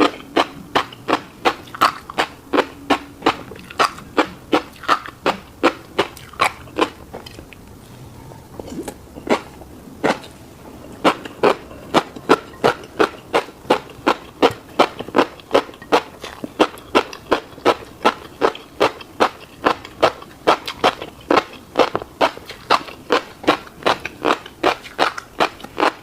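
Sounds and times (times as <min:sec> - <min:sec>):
wet crisp chewing: 0:00.0 - 0:26.0.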